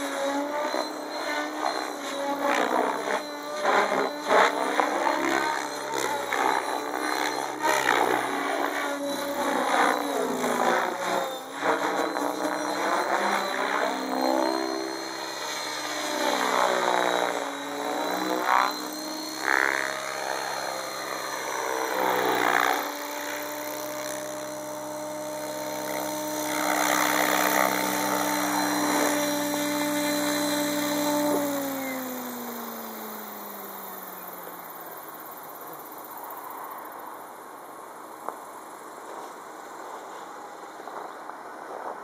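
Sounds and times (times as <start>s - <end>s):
rc helicopter rotor whining: 0.0s - 41.9s.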